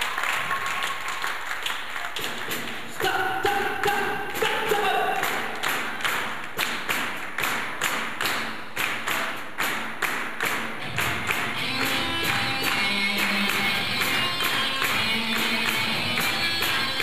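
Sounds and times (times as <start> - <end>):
rhythmic hand clapping: 0.0 - 17.0.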